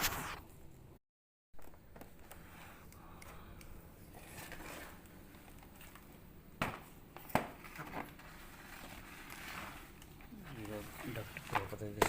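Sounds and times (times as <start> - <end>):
rustling and handling noise: 1.6 - 12.0.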